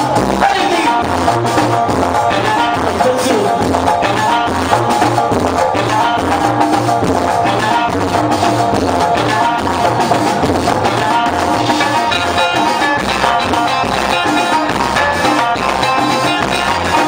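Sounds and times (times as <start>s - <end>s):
hand percussion beat: 0.0s - 17.0s
banjo playing: 1.3s - 17.0s.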